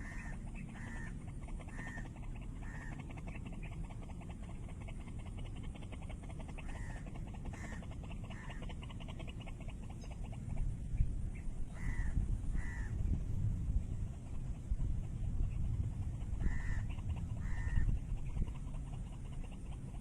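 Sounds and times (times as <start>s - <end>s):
waterhen croaking calls: 0.0s - 13.2s, 13.9s - 20.0s.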